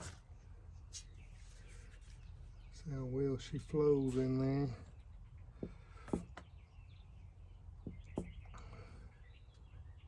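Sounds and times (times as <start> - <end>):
faint bird chirps: 0.1 - 10.0.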